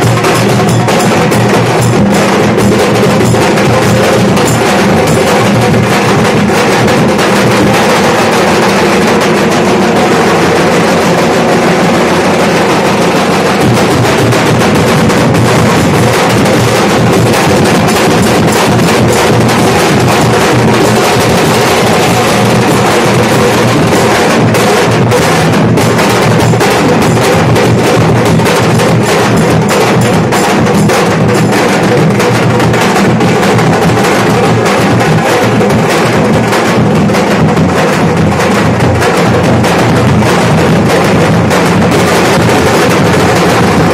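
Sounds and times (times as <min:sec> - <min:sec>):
dhol drums beaten fast: 0:00.0 - 0:43.9.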